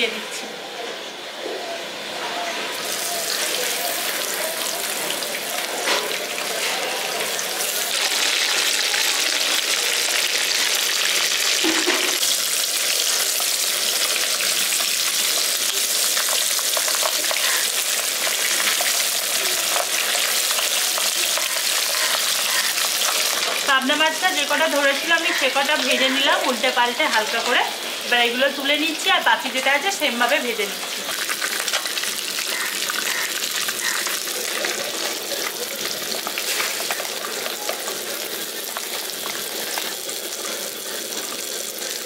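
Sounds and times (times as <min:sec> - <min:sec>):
fish sizzling in hot oil: 0:02.7 - 0:42.0.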